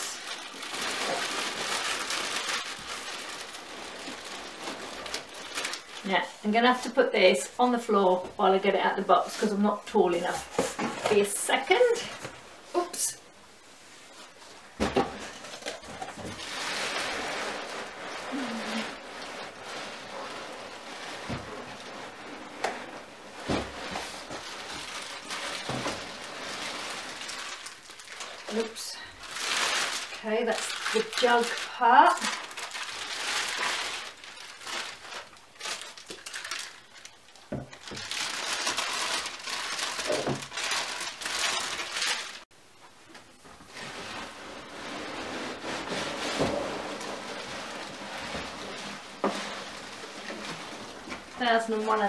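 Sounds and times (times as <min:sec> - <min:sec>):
plastic packaging crinkling: 0:00.0 - 0:08.7, 0:14.0 - 0:42.5, 0:43.3 - 0:52.0
steady background hiss: 0:00.0 - 0:52.0.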